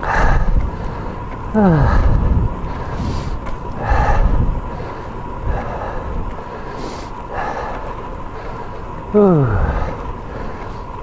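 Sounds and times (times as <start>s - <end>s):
bike tyre road noise: 0.0s - 11.0s
wind noise on microphone: 0.0s - 11.0s.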